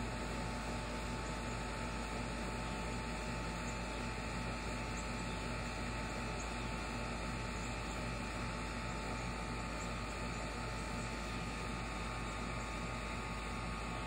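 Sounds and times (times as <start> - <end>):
background hum and hiss: 0.0 - 14.0.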